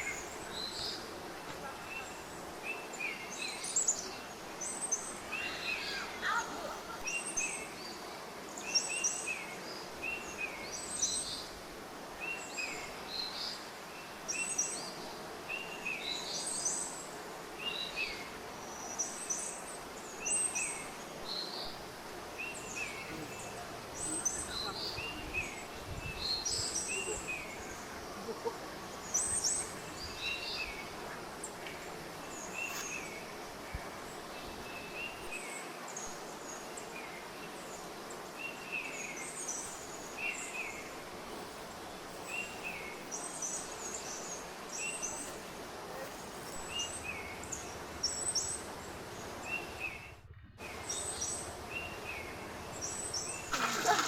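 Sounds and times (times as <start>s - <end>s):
birds chirping: 0.0s - 11.6s, 12.2s - 54.0s
outdoor ambience hiss: 0.0s - 54.0s.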